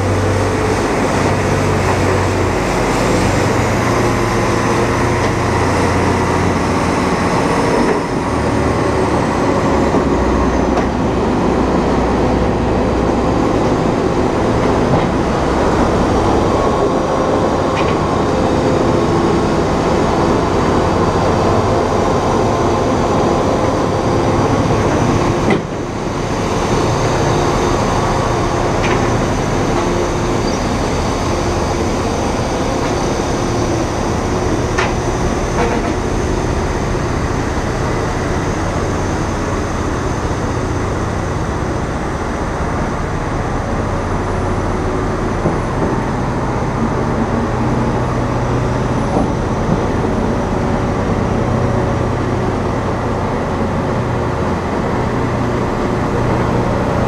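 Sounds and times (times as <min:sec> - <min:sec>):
truck diesel engine running: 0:00.0 - 0:57.0
tyre and road noise: 0:00.0 - 0:57.0.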